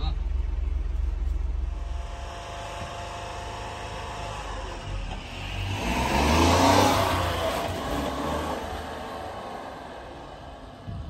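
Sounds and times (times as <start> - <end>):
truck driving off: 0.0 - 11.0
tyres on pavement: 0.1 - 11.0.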